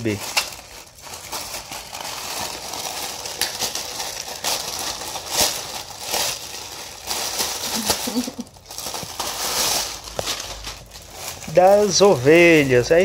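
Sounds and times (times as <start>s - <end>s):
plastic mailer bag rustling: 0.0s - 13.0s
plastic wrap crackling: 0.0s - 13.0s.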